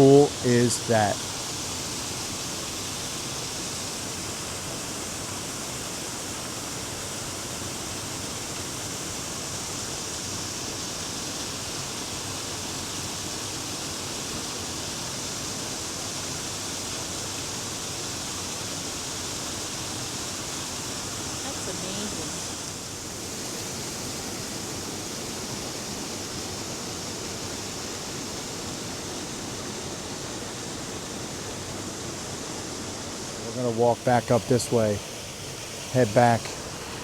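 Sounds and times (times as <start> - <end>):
creek water rushing over dam: 0.0 - 37.0.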